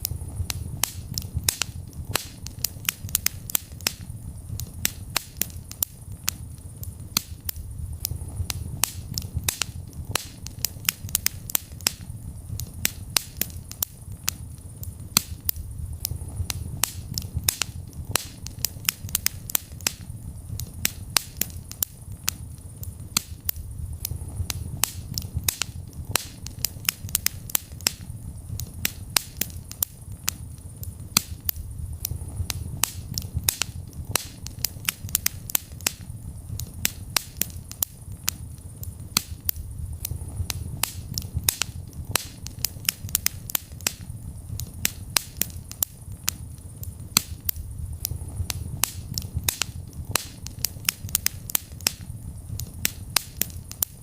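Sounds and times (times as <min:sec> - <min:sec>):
low rumble of flames: 0:00.0 - 0:54.0
wood fire pops and snaps: 0:00.0 - 0:54.0.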